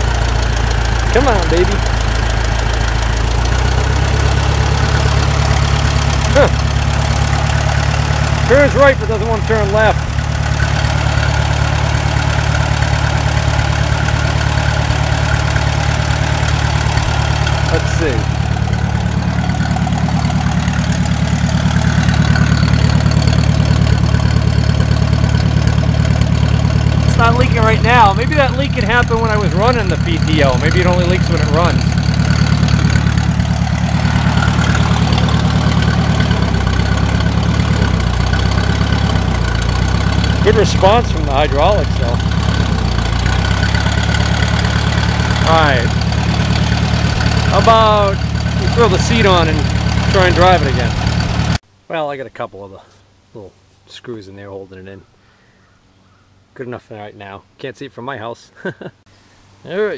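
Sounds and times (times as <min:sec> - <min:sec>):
tractor engine idling: 0:00.0 - 0:51.6.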